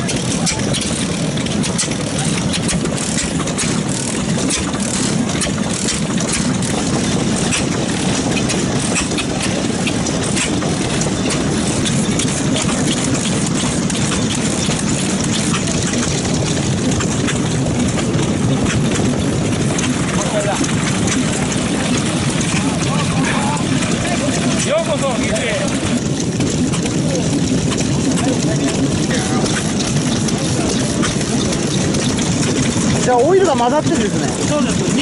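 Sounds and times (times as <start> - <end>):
stationary engines clattering: 0.0 - 35.0.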